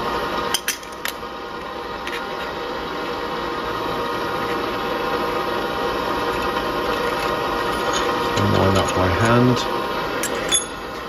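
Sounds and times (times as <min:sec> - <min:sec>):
workshop machinery humming: 0:00.0 - 0:11.0.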